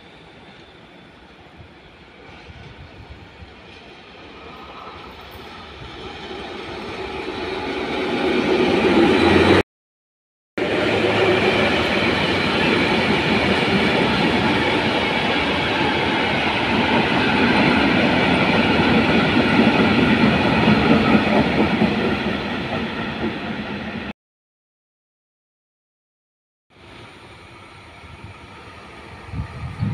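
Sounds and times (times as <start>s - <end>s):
train rolling on rails: 0.0s - 9.6s, 10.6s - 24.1s, 26.7s - 29.9s.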